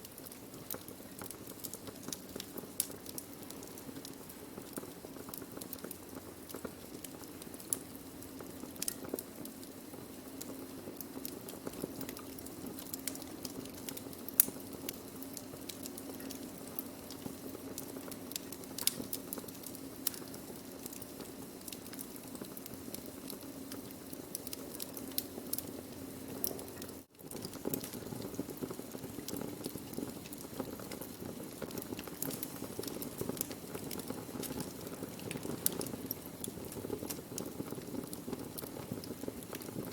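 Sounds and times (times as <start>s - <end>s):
fire crackling and popping: 0.0s - 39.9s
low rush of flames: 0.0s - 39.9s.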